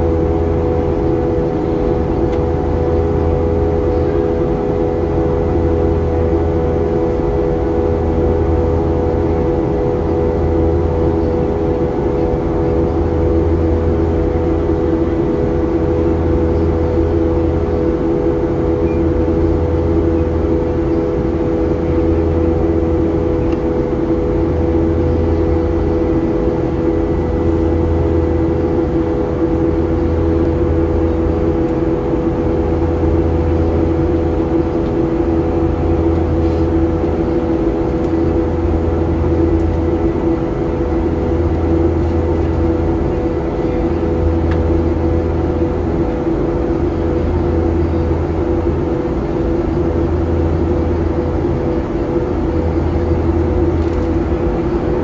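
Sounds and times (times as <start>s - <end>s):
jet engine cabin drone: 0.0s - 55.0s
low hum: 0.0s - 55.0s.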